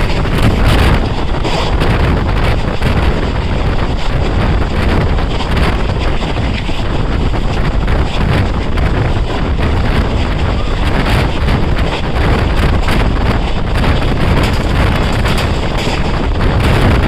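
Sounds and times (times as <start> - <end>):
train wheels rumbling on track: 0.0 - 17.0
wind on microphone: 0.0 - 17.0.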